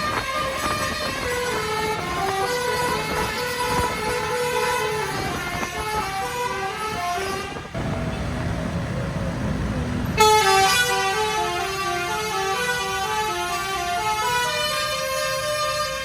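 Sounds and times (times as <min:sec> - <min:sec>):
bus engine: 0:00.0 - 0:16.0
bus horn playing melody: 0:00.0 - 0:16.0
road noise: 0:00.0 - 0:16.0.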